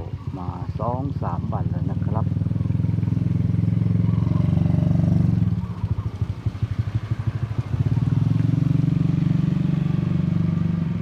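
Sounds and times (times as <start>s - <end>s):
small motorcycle engine running: 0.1s - 11.0s.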